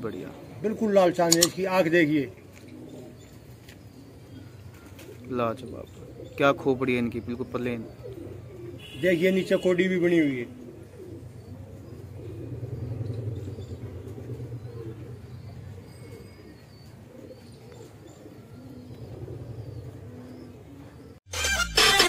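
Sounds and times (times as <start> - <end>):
pigeons cooing: 0.0 - 21.2.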